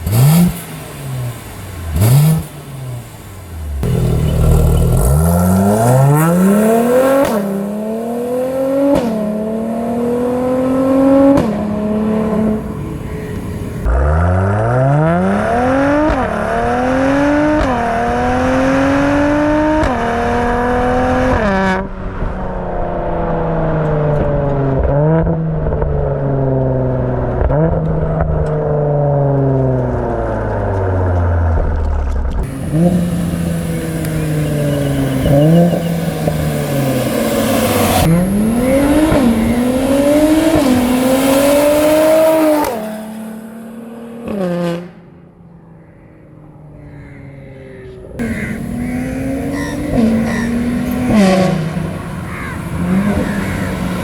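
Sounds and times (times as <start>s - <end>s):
car engine accelerating through gears: 0.0s - 45.2s, 48.0s - 54.0s.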